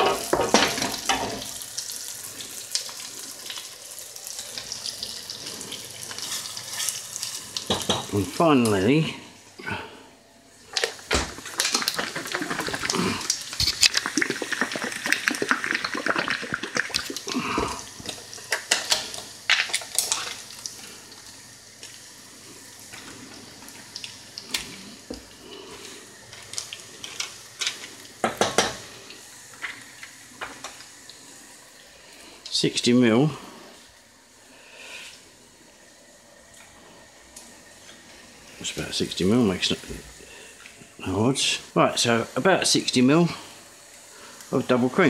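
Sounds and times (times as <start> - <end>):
sauce sizzling in a pan: 0.0 - 9.5, 10.5 - 45.0.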